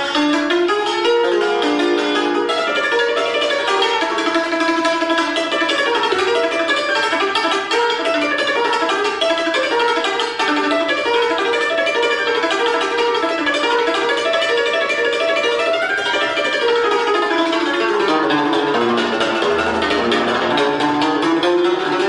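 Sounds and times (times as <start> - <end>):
cimbalom played with hammers: 0.0 - 22.0.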